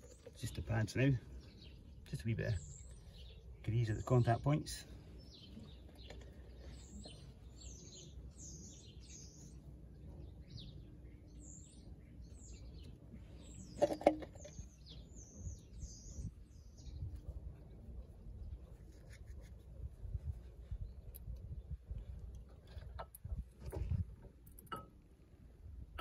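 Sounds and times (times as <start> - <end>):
small birds chirping: 0.0 - 24.8.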